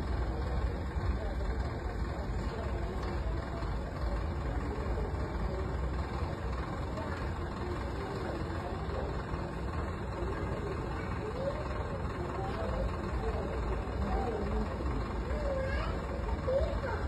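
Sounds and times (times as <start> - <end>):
faint distant voices: 0.0 - 17.0
street traffic rumble: 0.0 - 17.0.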